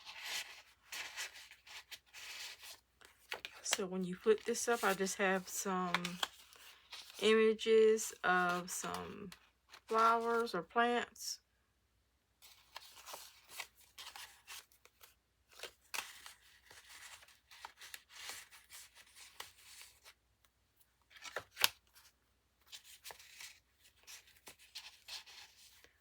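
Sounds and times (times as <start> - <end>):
paper pages rustling and crinkling: 0.0 - 7.4, 8.0 - 10.6, 12.4 - 20.2, 21.0 - 26.0.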